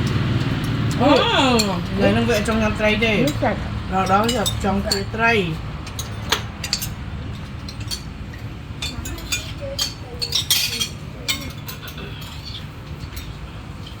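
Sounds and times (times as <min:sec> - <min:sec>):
cutlery clinking against plates: 0:00.0 - 0:14.0.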